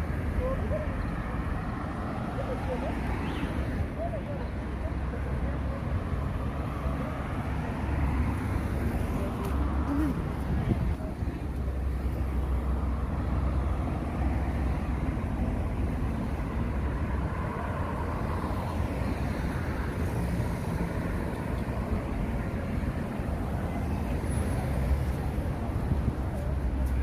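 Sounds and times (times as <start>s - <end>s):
deep traffic rumble: 0.0s - 27.0s
passing cars: 0.0s - 27.0s.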